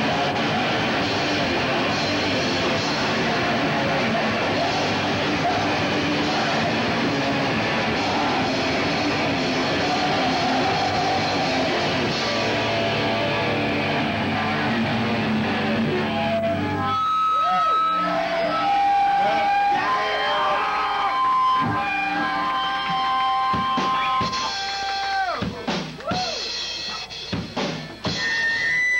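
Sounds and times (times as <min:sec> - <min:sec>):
rock band playing live: 0:00.0 - 0:16.8, 0:21.6 - 0:28.9.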